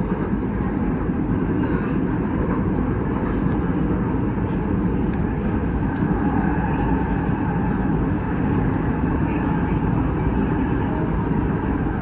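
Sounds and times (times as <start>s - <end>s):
train cabin low rumble: 0.0s - 12.0s.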